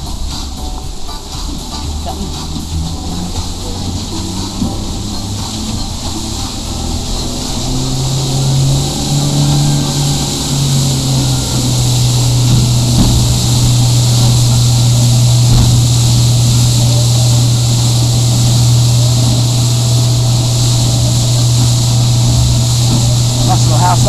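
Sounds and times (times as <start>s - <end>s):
motorboat engine drone: 0.0s - 24.0s
water rushing in wake: 0.0s - 24.0s.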